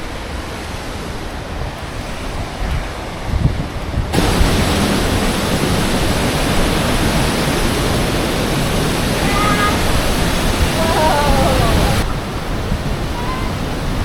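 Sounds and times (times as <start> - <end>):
heavy surf breaking waves: 0.0 - 14.0.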